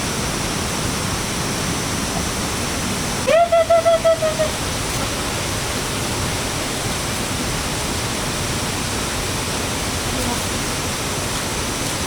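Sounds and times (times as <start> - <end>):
rush of water: 0.0 - 12.0.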